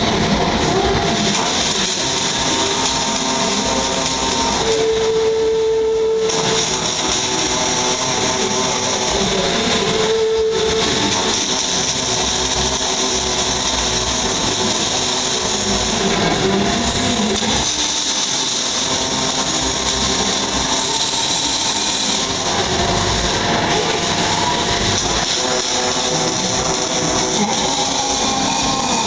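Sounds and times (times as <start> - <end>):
welding arc hiss: 0.0 - 29.0.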